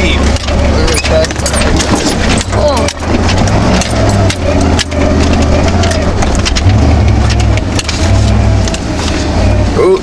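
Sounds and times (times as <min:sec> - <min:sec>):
truck engine pulling under load: 0:00.0 - 0:10.0.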